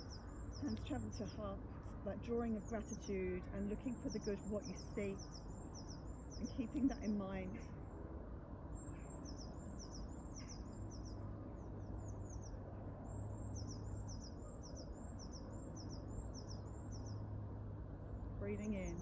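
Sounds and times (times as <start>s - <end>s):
bird chirping: 0.0s - 7.6s, 8.8s - 17.3s
steady low hum: 0.0s - 19.0s.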